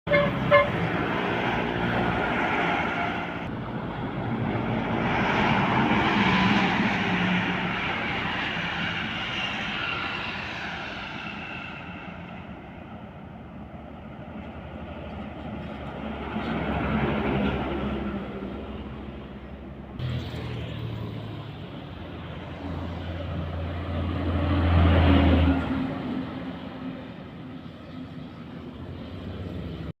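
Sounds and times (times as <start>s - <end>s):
truck diesel engine passing: 0.1s - 30.0s.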